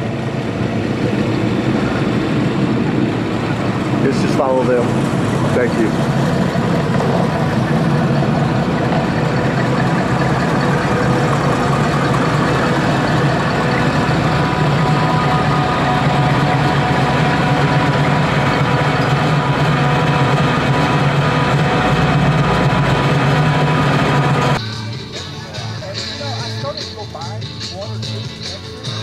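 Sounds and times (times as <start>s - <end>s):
car engines driving slowly past: 0.0s - 29.0s.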